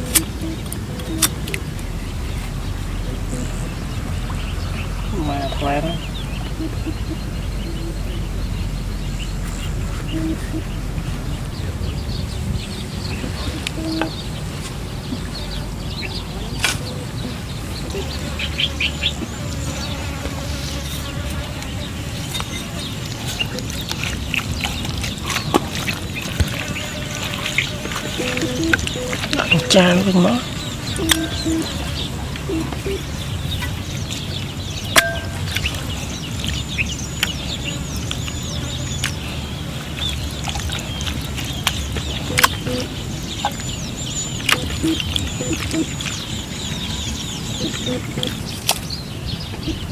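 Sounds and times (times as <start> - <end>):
low steady rumble: 0.0 - 26.4, 27.0 - 49.9
low background noise: 0.0 - 49.9
small birds chirping: 0.0 - 49.9.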